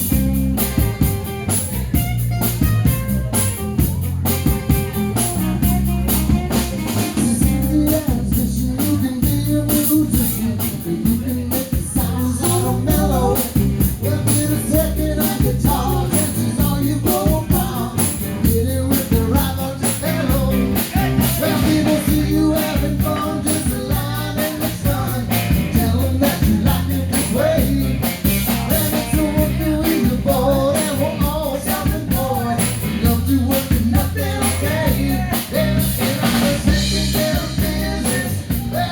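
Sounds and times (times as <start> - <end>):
electric guitar: 0.0 - 38.9
live rock band playing: 0.0 - 38.9.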